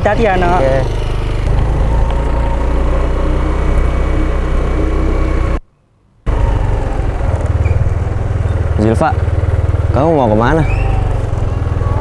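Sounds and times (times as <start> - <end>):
motorcycle engine rumbling: 0.0 - 5.6, 6.2 - 12.0.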